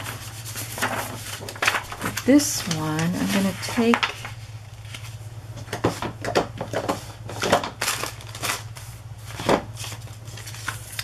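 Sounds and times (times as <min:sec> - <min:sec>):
paper rustling and sliding: 0:00.0 - 0:11.0
steady low hum: 0:00.0 - 0:11.0.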